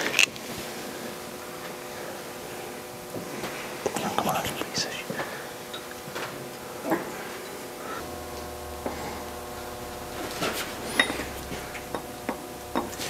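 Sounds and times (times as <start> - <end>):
steady low hum: 0.6 - 13.0.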